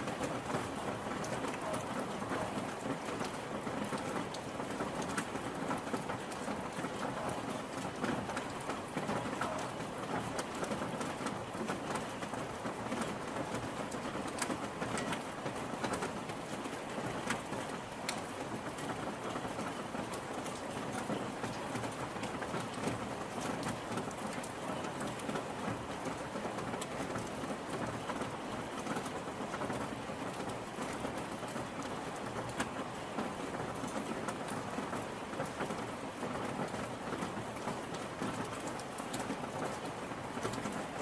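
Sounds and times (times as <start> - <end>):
raindrops ticking close by: 0.0 - 41.0
steady rain falling: 0.0 - 41.0.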